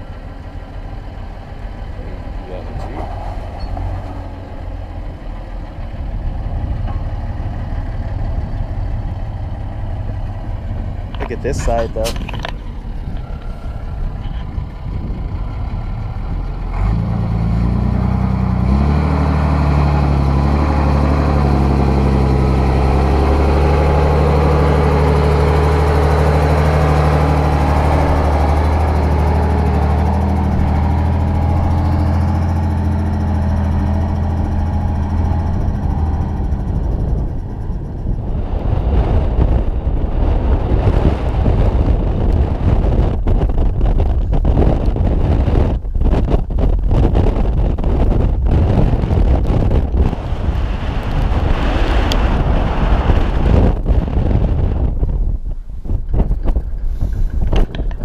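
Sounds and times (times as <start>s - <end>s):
diesel truck engine running: 0.0s - 58.0s
wind noise on microphone: 0.8s - 58.0s.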